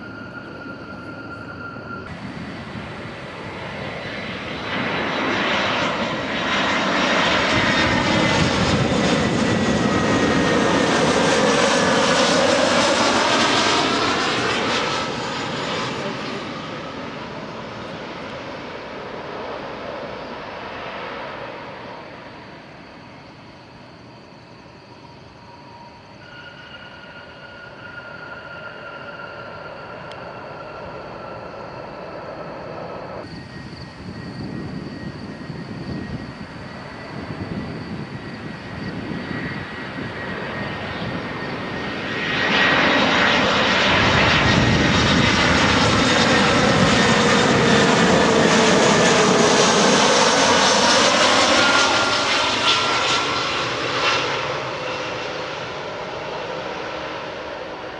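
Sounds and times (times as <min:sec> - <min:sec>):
jet airliner engine noise: 0:00.0 - 0:57.9.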